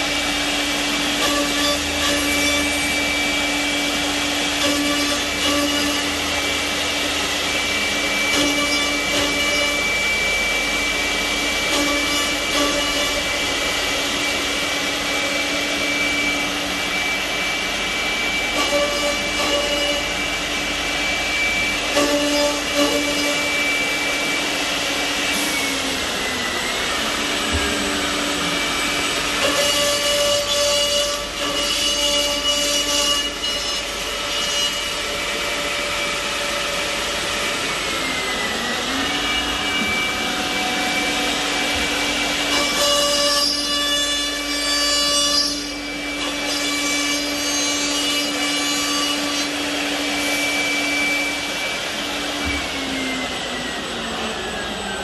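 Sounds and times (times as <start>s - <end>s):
high motor whine: 0.0s - 43.7s, 49.1s - 55.0s
machine cutting wood: 0.0s - 55.0s.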